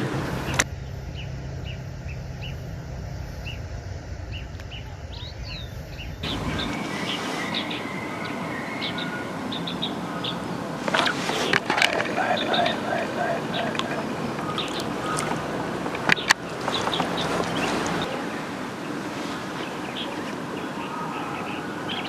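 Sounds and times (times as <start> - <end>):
steady low rumble: 0.0 - 20.7
small birds chirping: 0.0 - 22.0
light hiss: 1.7 - 20.8.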